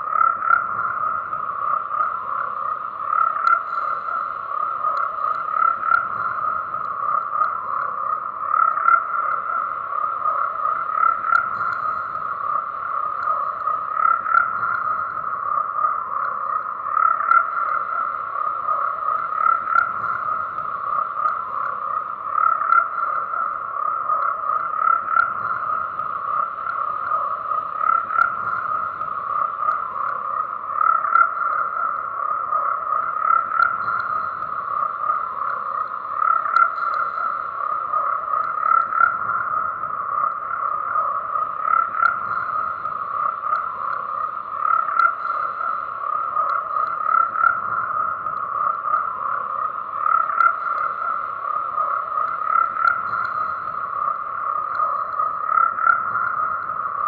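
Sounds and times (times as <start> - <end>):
chorus of frogs croaking: 0.0 - 57.0.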